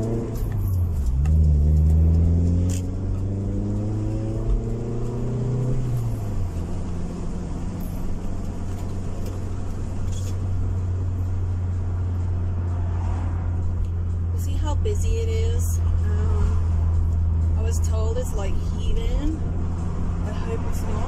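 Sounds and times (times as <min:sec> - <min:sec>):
car engine accelerating: 0:00.0 - 0:21.0
tyre and road noise: 0:00.0 - 0:21.0.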